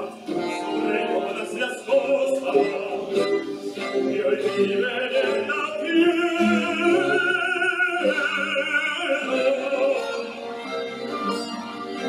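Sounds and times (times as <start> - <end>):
instrumental accompaniment: 0.0 - 12.0
operatic singing with vibrato: 0.0 - 12.0.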